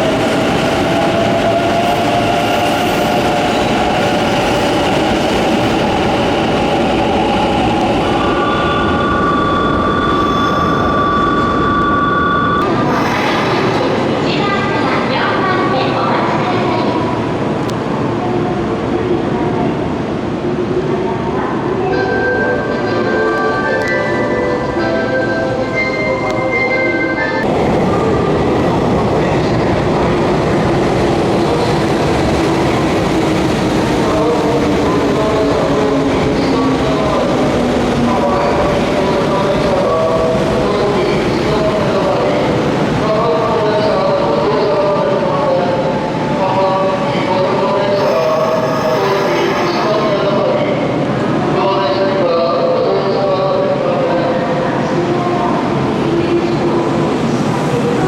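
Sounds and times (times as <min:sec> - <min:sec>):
electric train rumbling: 0:00.0 - 0:58.0.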